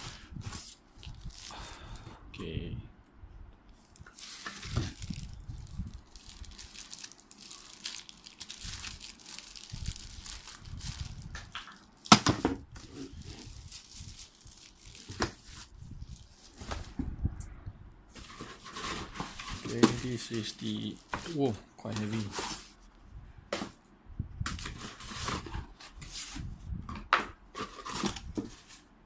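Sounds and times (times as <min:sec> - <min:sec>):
plastic and cardboard crinkling: 0:00.0 - 0:01.6, 0:03.8 - 0:17.0, 0:18.1 - 0:22.9, 0:24.5 - 0:28.9.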